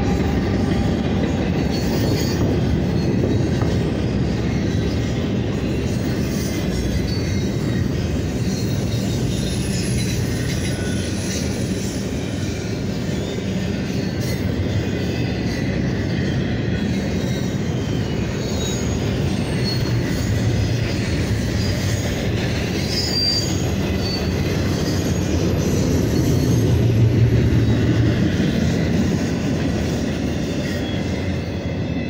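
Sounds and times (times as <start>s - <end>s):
train wheels rumbling on rails: 0.0s - 32.0s
high-pitched wheel squeal: 0.1s - 32.0s.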